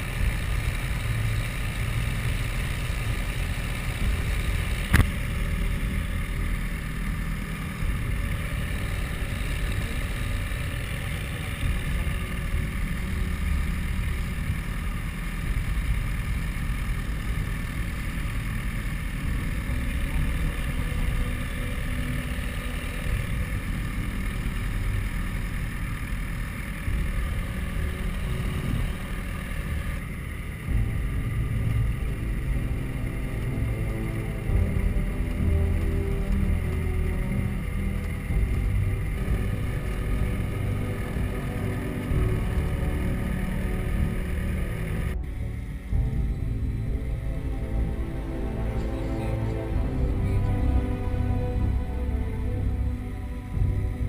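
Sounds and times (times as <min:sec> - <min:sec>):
aircraft piston engine running: 0:00.0 - 0:54.0.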